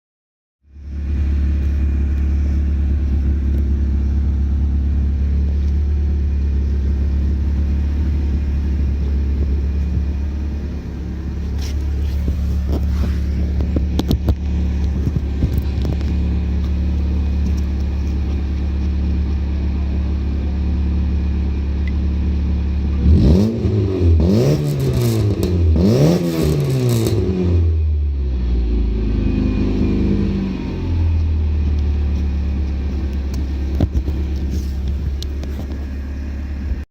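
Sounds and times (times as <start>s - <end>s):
car engine idling and revving: 0.6s - 36.9s.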